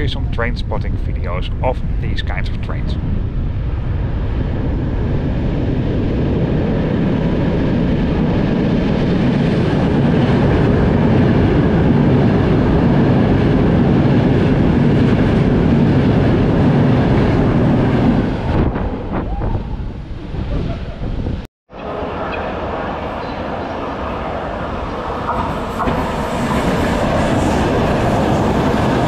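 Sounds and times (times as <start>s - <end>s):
train roaring through tunnel: 0.0s - 29.0s.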